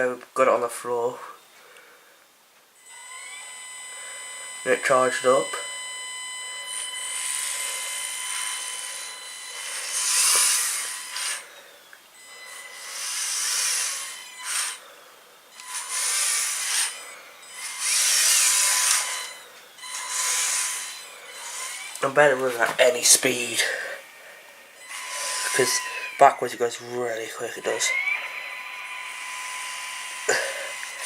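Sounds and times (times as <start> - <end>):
toy car motors whirring: 2.8 - 31.0.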